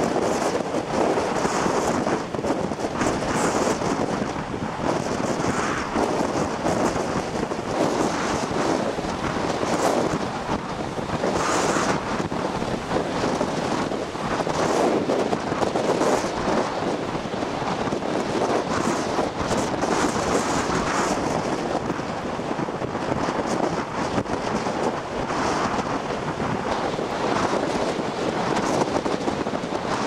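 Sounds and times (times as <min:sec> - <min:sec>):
surf breaking on shore: 0:00.0 - 0:30.0
wind buffeting the microphone: 0:00.0 - 0:30.0.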